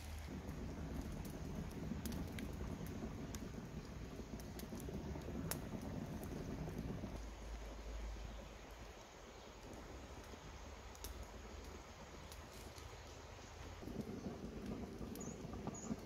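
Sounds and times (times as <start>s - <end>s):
low steady fire rush: 0.0s - 16.0s
wood fire crackling: 0.0s - 16.0s.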